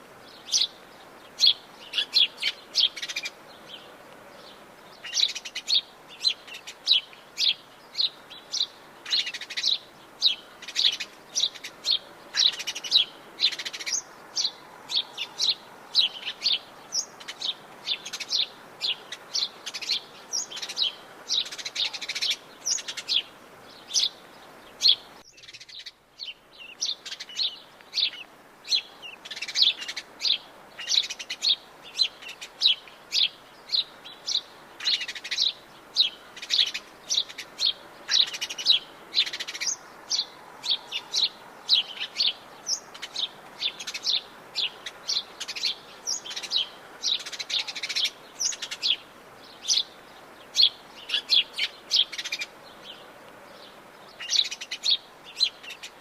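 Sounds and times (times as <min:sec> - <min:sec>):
faint steady hiss: 0:00.0 - 0:56.0
forest birds chirping: 0:00.0 - 0:56.0.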